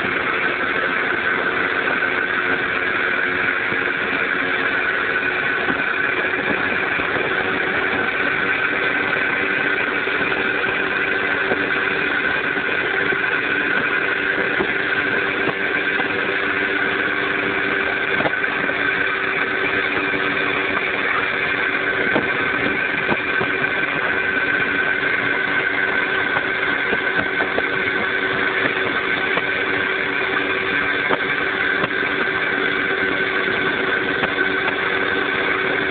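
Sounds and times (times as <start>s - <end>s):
moped engine cruising: 0.0s - 35.9s.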